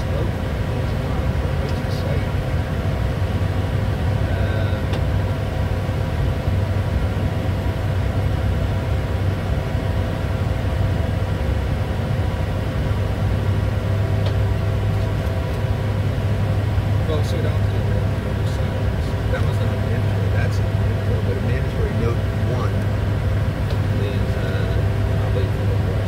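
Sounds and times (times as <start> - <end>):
faint steady tones: 0.0 - 26.0
strong low hum: 0.0 - 26.0.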